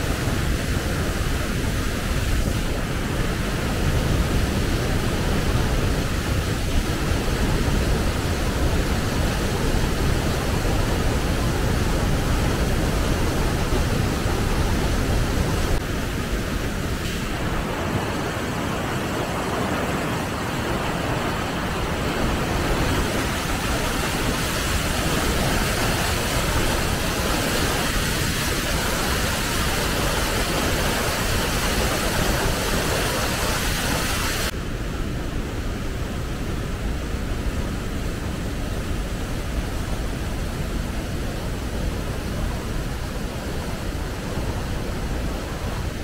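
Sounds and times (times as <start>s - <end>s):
waterfall rushing over boulders: 0.0s - 46.0s.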